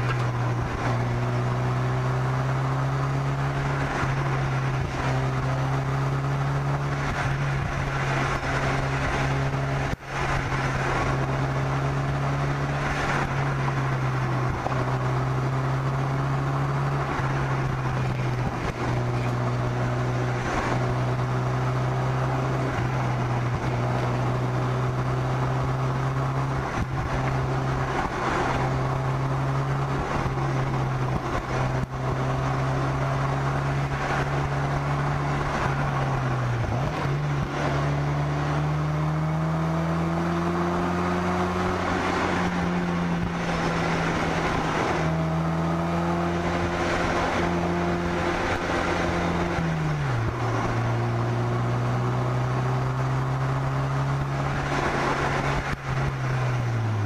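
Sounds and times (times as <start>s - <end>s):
car engine droning: 0.0s - 57.0s
wind and road noise: 0.0s - 57.0s.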